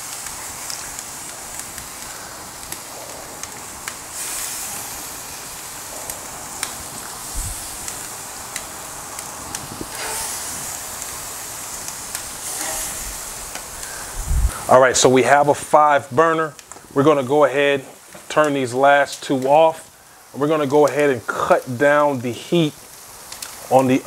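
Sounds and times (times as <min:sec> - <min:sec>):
chicken sizzling on grill: 0:00.0 - 0:24.0.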